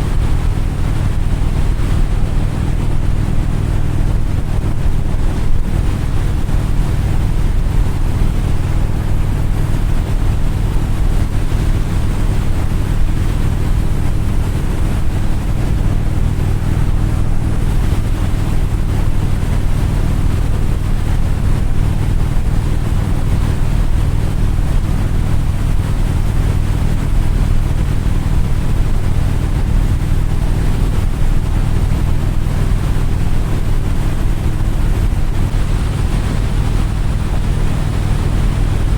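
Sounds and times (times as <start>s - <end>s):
engine running: 0.0s - 38.9s
wind noise: 0.0s - 38.9s.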